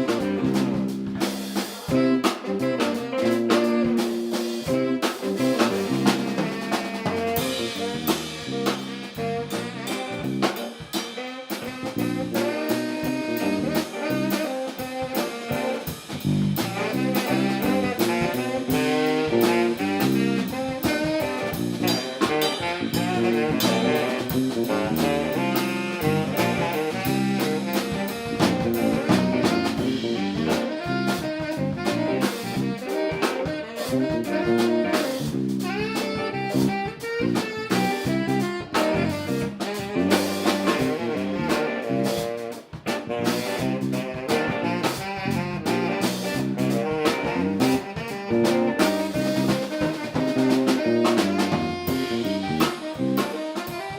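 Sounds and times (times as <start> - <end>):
drum kit beat: 0.0 - 53.9
live band instrumental groove: 0.0 - 53.9
saxophone and brass lines: 0.0 - 53.9.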